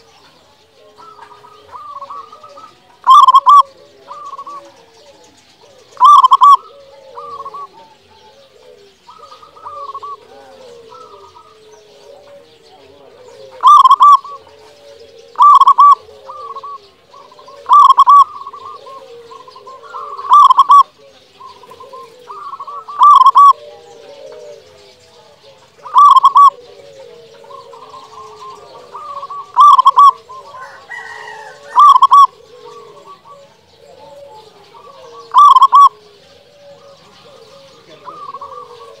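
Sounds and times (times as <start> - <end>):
chatter of bird calls: 0.0 - 39.0
dove cooing: 0.0 - 39.0.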